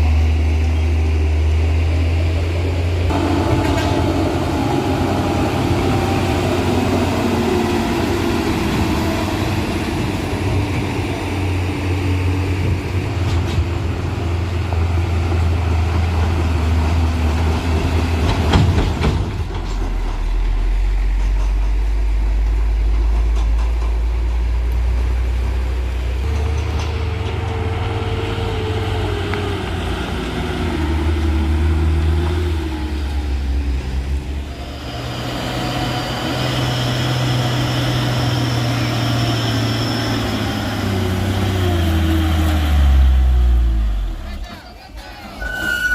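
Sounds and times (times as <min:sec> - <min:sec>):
truck diesel engine labouring: 0:00.0 - 0:45.9.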